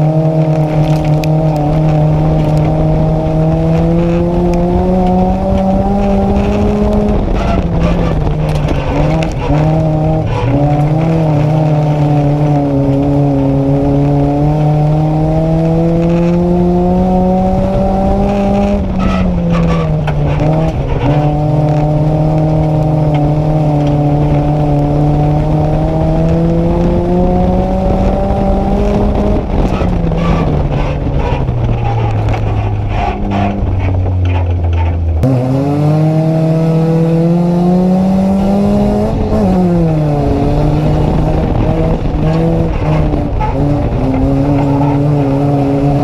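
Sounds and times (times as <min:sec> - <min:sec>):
race car engine at high revs: 0:00.0 - 0:46.0
tyre noise: 0:00.0 - 0:46.0.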